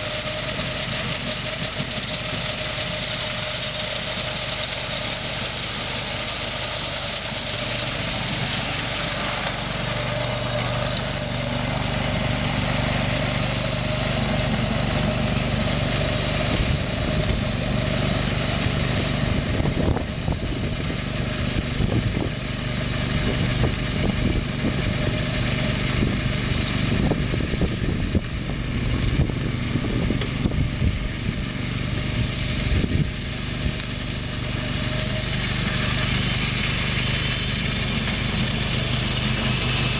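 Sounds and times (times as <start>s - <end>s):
tracked machine engine running: 0.0s - 39.9s.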